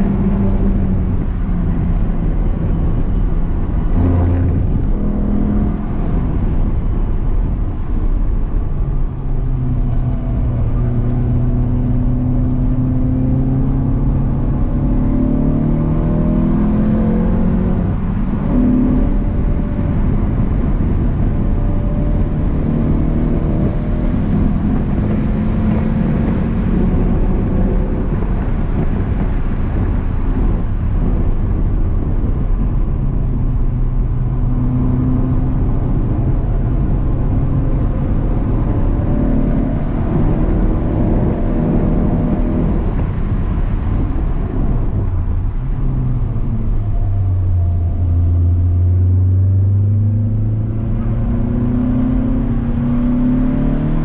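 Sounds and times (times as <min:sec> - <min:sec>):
car engine accelerating: 0:00.0 - 0:54.0
road and tyre rumble: 0:00.0 - 0:54.0.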